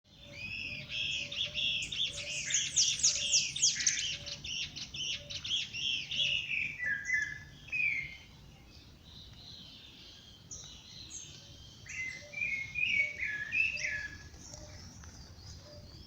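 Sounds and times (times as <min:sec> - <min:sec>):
songbird singing: 0:00.1 - 0:16.0.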